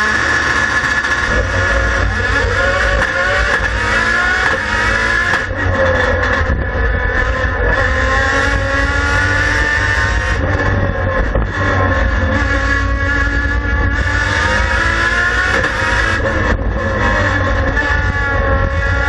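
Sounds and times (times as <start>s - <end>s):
race car engine revving hard: 0.0s - 19.0s.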